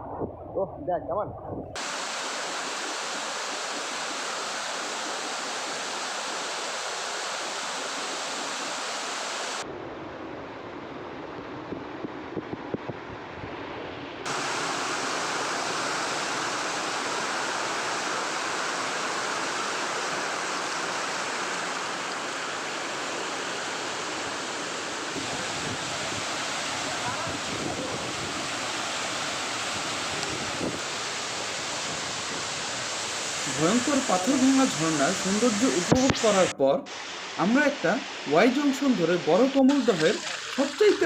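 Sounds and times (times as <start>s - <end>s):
quiet water noise: 0.0s - 41.0s
waterfall roaring: 1.8s - 9.7s, 14.2s - 41.0s.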